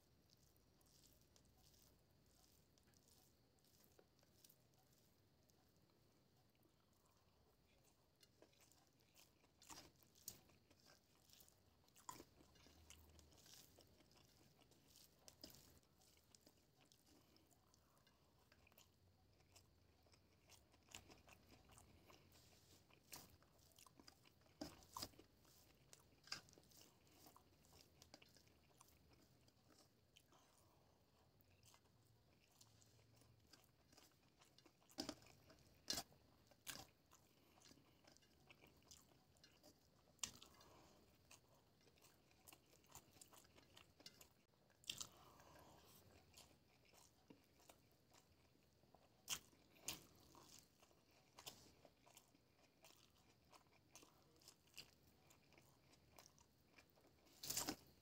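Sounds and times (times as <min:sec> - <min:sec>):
chewing food: 0:00.0 - 0:58.0.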